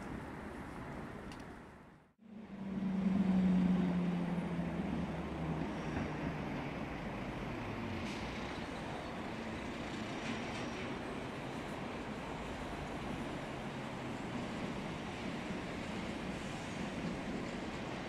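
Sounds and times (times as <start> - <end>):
railway and city noise: 0.0 - 18.0.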